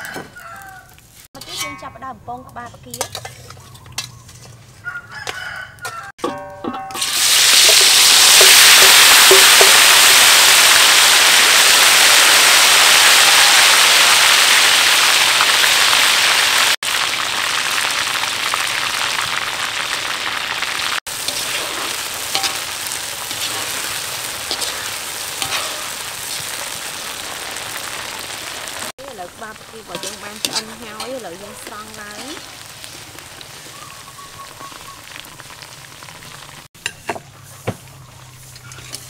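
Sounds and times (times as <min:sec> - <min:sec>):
shrimp sizzling in hot oil: 0:06.9 - 0:37.1, 0:37.8 - 0:39.0.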